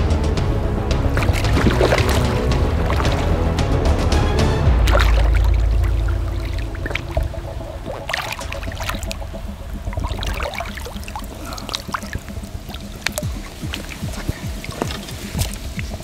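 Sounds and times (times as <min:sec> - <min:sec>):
fish thrashing in water: 0:01.1 - 0:03.4, 0:04.8 - 0:16.0.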